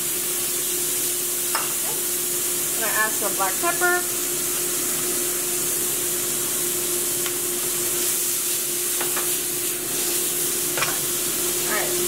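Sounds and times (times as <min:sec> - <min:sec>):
corn sizzling in frying pan: 0:00.0 - 0:12.0.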